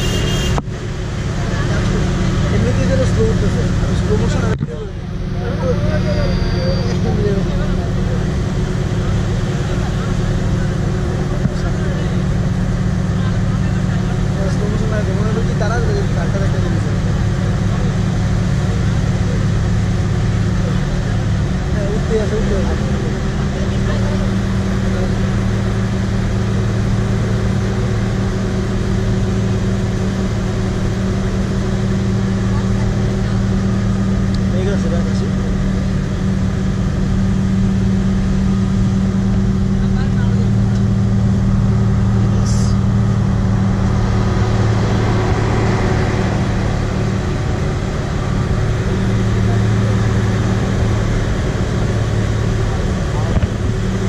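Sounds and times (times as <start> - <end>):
road and wind noise: 0.0 - 54.0
vehicle engine humming: 0.0 - 54.0.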